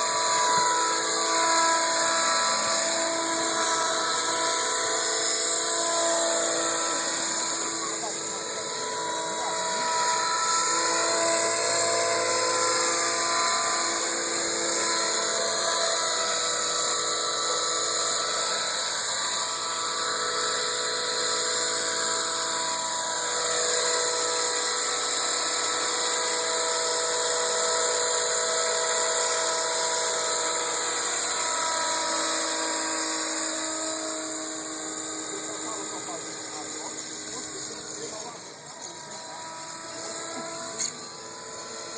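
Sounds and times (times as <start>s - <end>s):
model helicopter whine: 0.0s - 41.9s.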